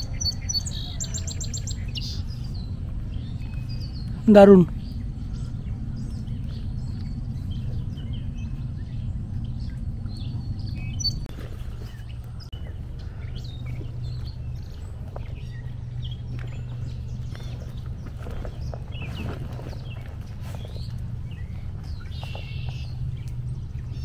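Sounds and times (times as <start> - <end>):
low outdoor rumble: 0.0 - 24.0
small birds chirping: 0.0 - 24.0.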